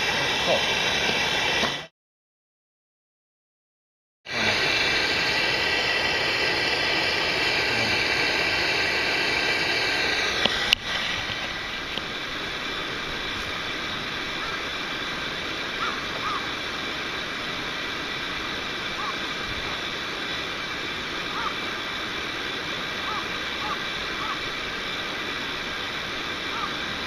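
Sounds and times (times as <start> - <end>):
mountain stream rushing: 0.0 - 1.9, 4.3 - 27.0.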